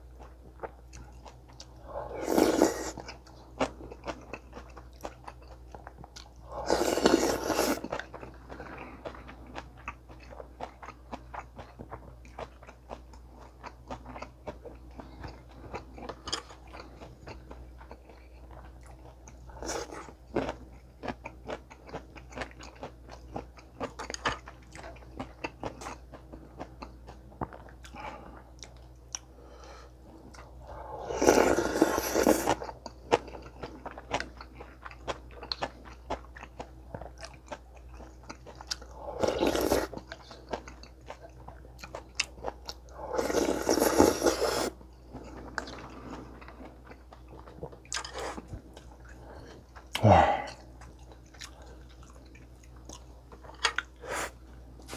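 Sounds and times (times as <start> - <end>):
crunchy chewing: 0.2 - 29.2, 30.3 - 54.9.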